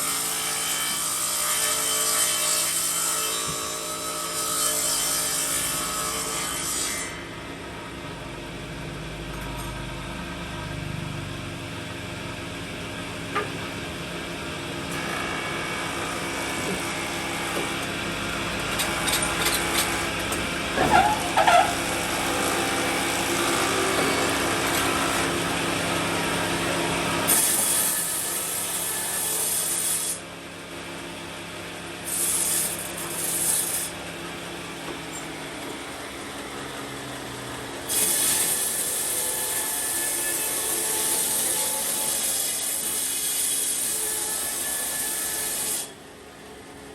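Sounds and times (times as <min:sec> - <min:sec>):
power saw cutting wood: 0:00.0 - 0:07.8, 0:12.8 - 0:46.1.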